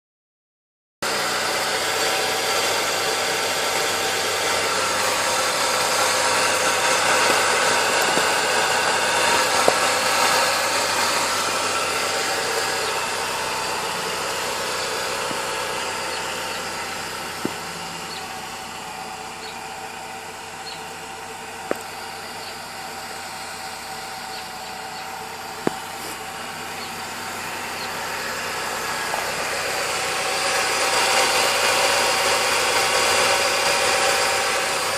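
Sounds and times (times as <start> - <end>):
car engine idling with whine: 1.0 - 34.9.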